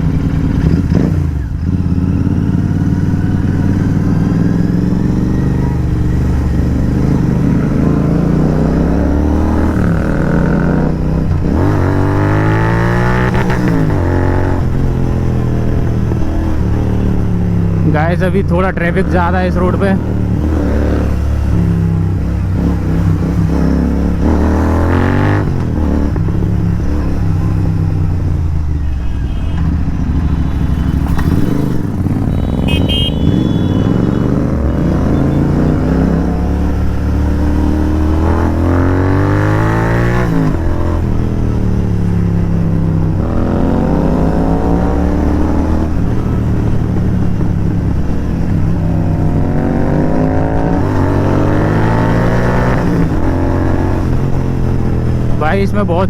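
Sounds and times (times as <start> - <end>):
motorcycle engine revving through gears: 0.0 - 17.9, 18.8 - 28.8, 29.6 - 55.5.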